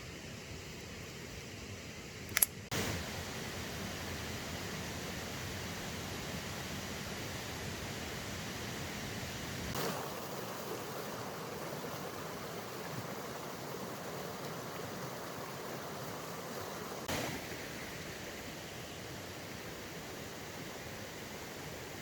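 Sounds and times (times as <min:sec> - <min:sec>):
river rushing: 0:02.8 - 0:22.0.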